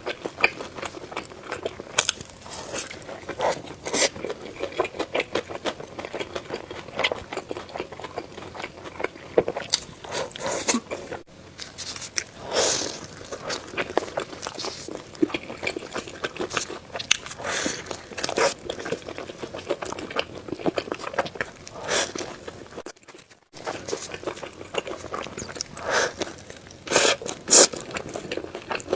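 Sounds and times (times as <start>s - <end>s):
chewing crunchy food: 0.0s - 28.9s.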